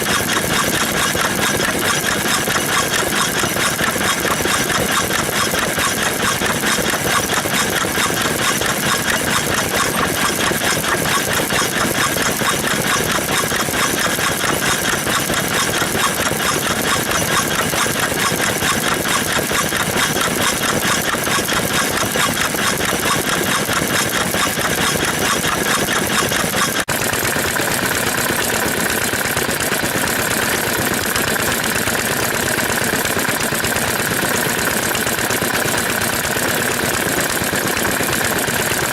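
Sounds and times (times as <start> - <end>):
stationary engines running: 0.0 - 38.9.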